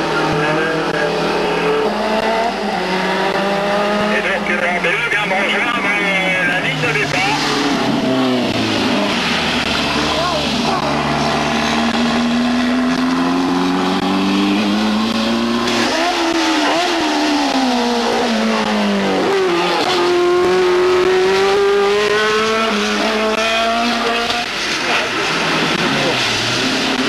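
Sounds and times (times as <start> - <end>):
car engine revs climbing: 0.0 - 27.0
racing car high-revving engine: 0.0 - 27.0.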